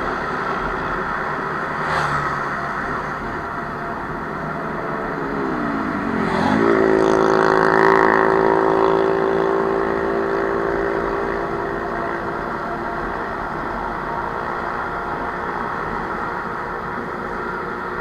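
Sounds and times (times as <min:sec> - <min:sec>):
vehicle engine revving: 0:00.0 - 0:17.9.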